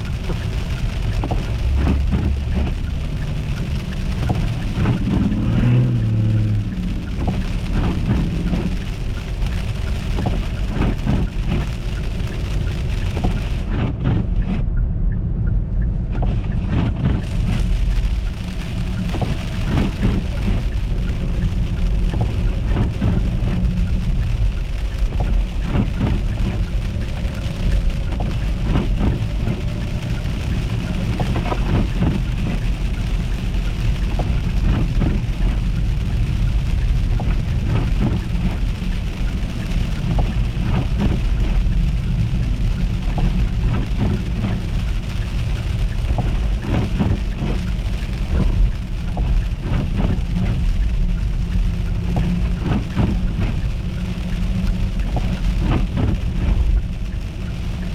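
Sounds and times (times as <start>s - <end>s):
car road and engine rumble: 0.0s - 57.9s
crackling ticks: 0.0s - 57.9s.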